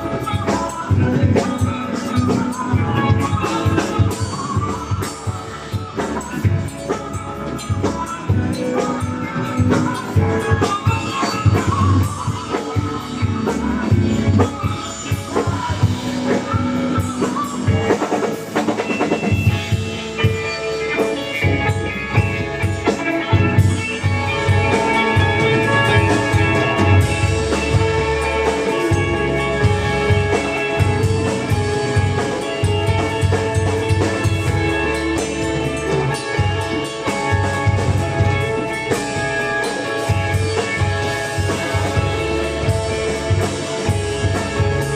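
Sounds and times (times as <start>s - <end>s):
drum kit beat: 0.0s - 44.9s
guitar: 0.0s - 44.9s
rock band instrumental: 0.0s - 44.9s.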